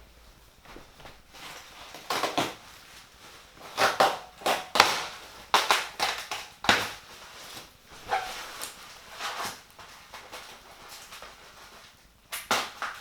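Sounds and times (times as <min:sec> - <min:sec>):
packaging crunching and scraping: 0:01.0 - 0:13.0.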